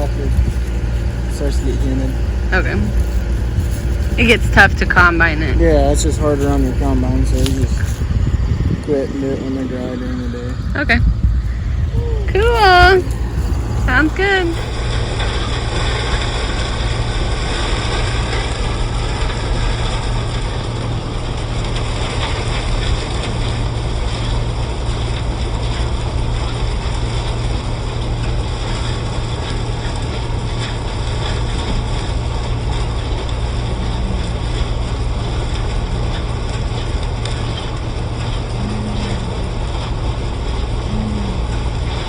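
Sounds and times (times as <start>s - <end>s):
combine harvester running: 0.0s - 42.0s.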